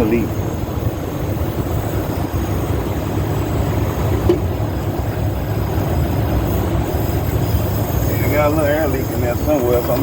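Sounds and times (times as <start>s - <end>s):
air leak hissing: 0.0s - 10.0s.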